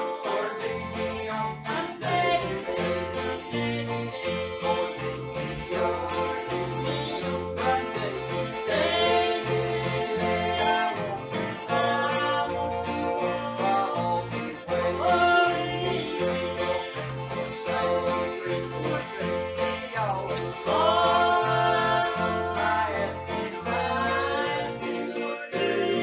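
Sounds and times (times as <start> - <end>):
country gospel band playing: 0.0 - 26.0.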